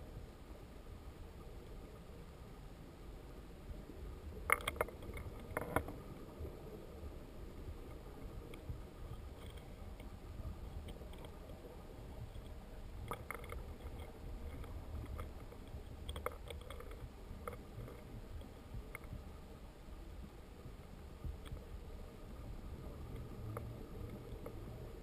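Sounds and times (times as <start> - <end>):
muffled underwater water rumble: 0.0 - 25.0
faint underwater clicks: 0.1 - 25.0.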